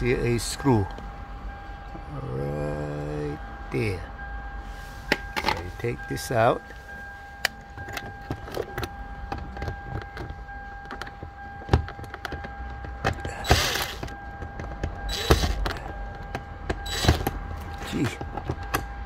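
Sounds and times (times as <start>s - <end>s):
faint steady tone: 0.0s - 19.0s.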